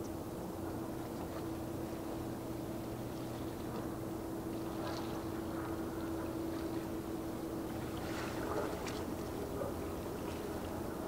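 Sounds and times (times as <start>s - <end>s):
ship machinery hum: 0.0s - 11.0s.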